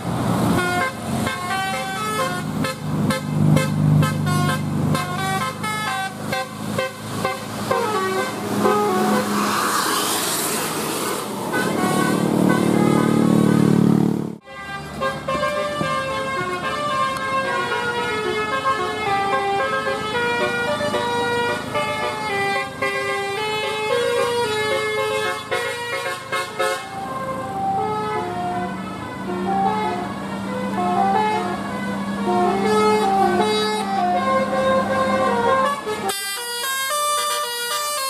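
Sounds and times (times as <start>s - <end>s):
multi-tone air horn melody: 0.5s - 10.7s, 11.4s - 38.0s.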